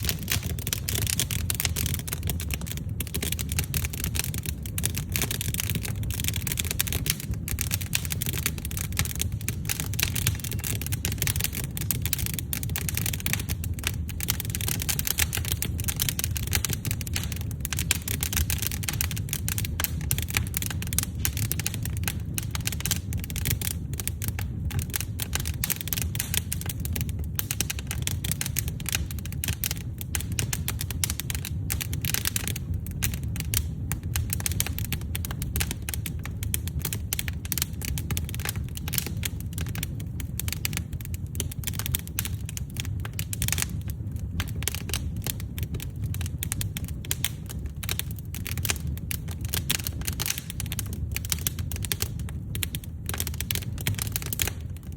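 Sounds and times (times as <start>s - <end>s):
low rumble of flames: 0.0s - 54.9s
wood fire crackling: 0.0s - 54.9s.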